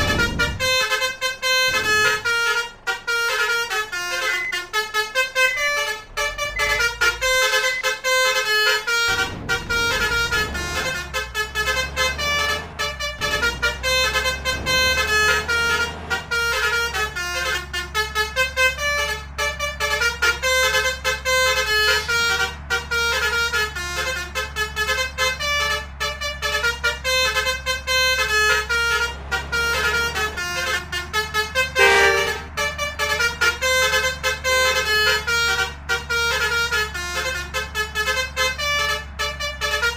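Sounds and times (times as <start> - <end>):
low engine hum: 0.0 - 39.9
musical air horn playing a melody: 0.0 - 39.9.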